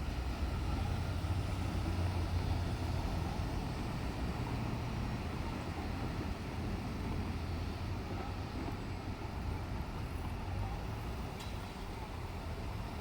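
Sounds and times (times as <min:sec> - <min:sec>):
diesel railcar engine rumbling: 0:00.0 - 0:13.0.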